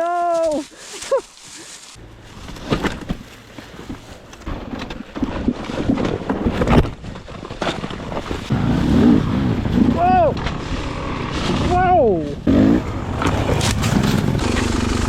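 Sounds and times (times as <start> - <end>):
rumbling and scraping: 0.6 - 15.0.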